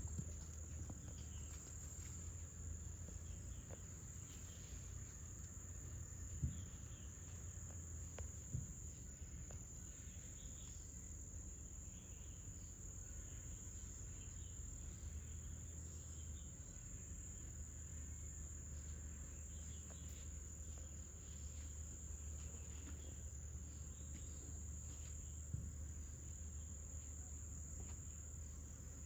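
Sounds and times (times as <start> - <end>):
insects trilling: 0.0 - 29.0
low steady hum: 0.0 - 29.0.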